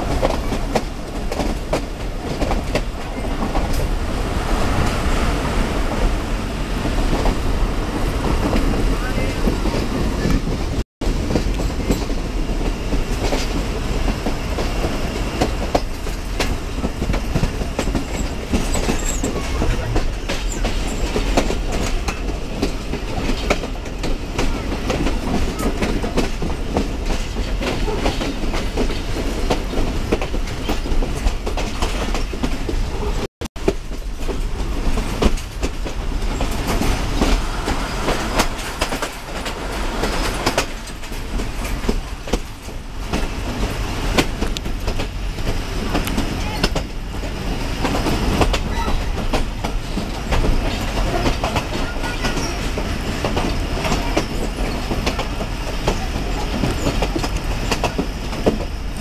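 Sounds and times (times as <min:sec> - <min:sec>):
train coach rolling rush: 0:00.0 - 0:59.0
wheels clacking over rail joints: 0:00.0 - 0:59.0.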